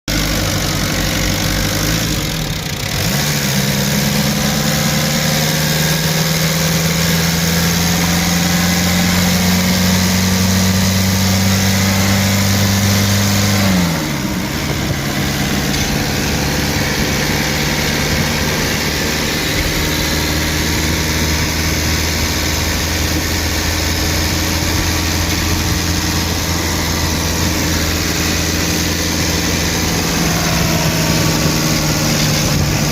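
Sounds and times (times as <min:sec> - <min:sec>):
diesel engine idling and revving: 0:00.1 - 0:32.9.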